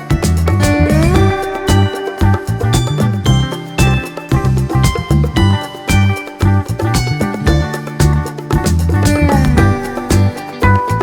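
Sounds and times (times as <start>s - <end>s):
latin-style background music: 0.0s - 11.0s
sliding guitar line: 0.0s - 11.0s.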